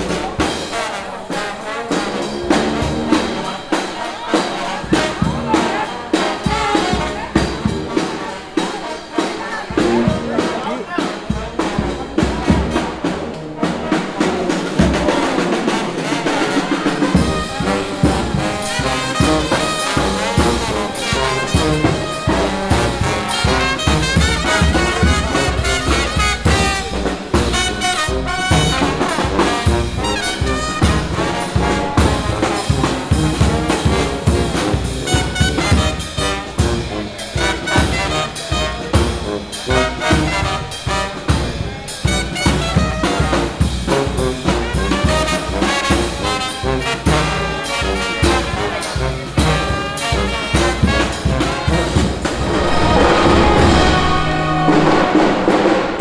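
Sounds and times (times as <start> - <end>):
brass band playing jazz: 0.0 - 56.0.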